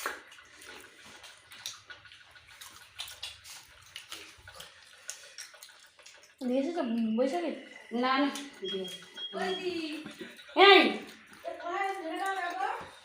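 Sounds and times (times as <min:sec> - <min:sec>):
wet clicks and smacks of eating: 0:00.0 - 0:13.0.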